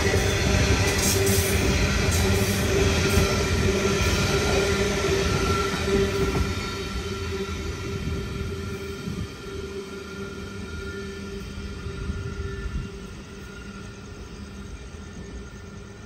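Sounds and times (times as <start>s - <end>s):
steady whining tone: 0.0s - 16.0s
train wheels rumbling on rails: 0.0s - 16.0s.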